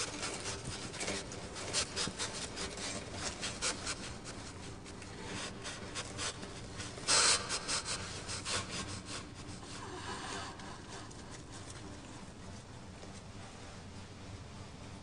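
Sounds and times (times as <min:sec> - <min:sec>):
scratching on wire feeder: 0:00.0 - 0:12.6
soft rustling: 0:00.0 - 0:15.0.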